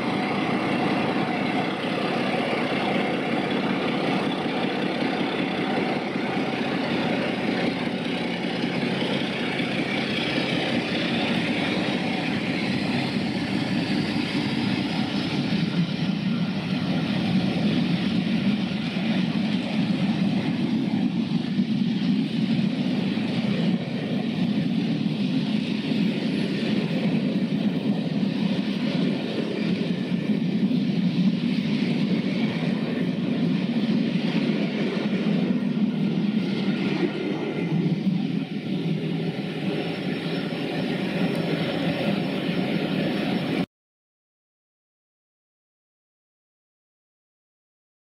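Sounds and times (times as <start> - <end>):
wheels rumbling on rail: 0.0 - 43.6.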